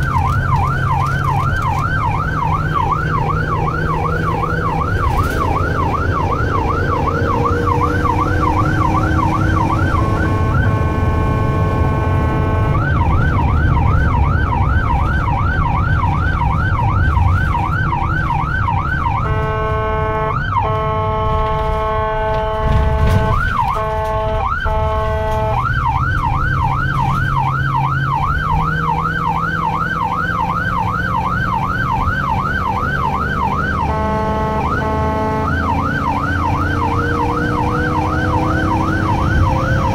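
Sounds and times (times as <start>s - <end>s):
ambulance siren yelping: 0.0s - 39.9s
engine and road rumble: 0.0s - 39.9s.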